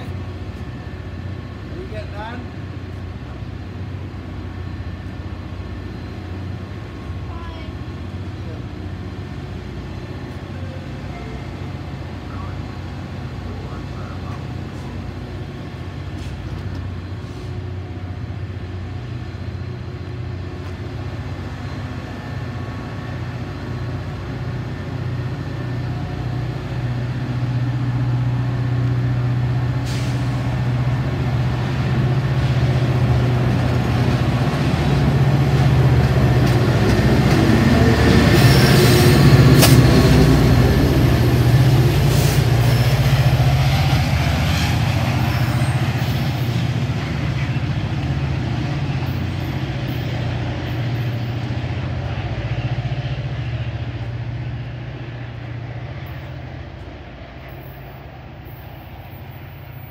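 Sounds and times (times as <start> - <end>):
diesel locomotive engine: 0.0 - 59.9
train wheel and rail noise: 0.0 - 59.9.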